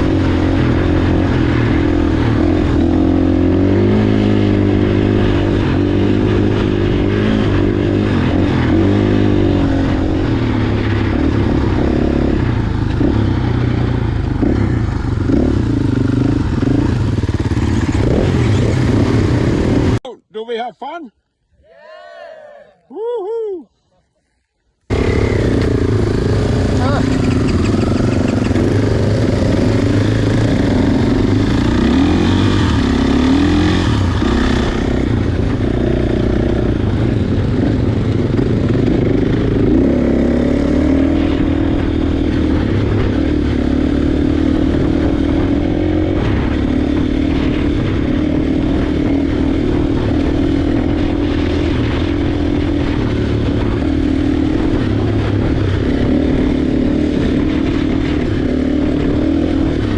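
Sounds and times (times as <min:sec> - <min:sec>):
motocross bike engine revving: 0:00.0 - 0:20.0, 0:24.9 - 0:59.9.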